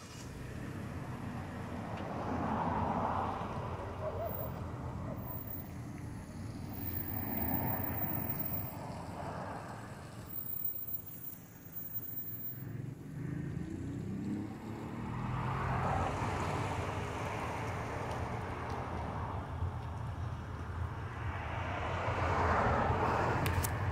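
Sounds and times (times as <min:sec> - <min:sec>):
car engine hum: 0:00.0 - 0:23.9
road noise: 0:00.0 - 0:23.9.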